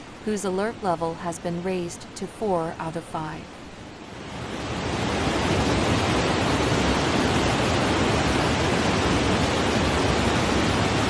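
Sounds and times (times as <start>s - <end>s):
flood torrent rushing: 0.0s - 11.0s.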